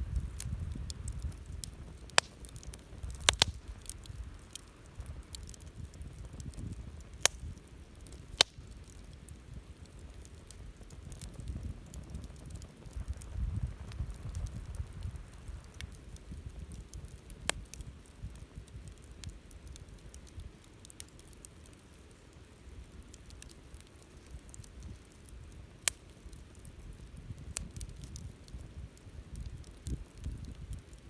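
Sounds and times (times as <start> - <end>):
campfire crackling: 0.0 - 31.0
fire popping: 0.0 - 31.0
low fire rumble: 0.0 - 31.0.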